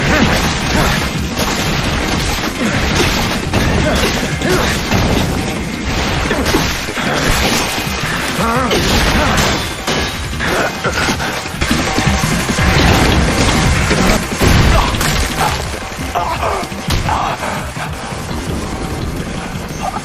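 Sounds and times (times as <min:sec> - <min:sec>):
crashes and impacts: 0:00.0 - 0:20.0
soundtrack music: 0:00.0 - 0:20.0.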